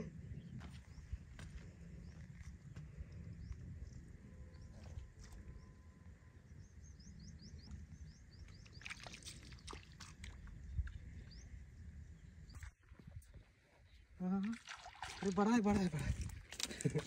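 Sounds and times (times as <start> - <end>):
wind rumbling on microphone: 0.0 - 14.2, 15.2 - 17.0.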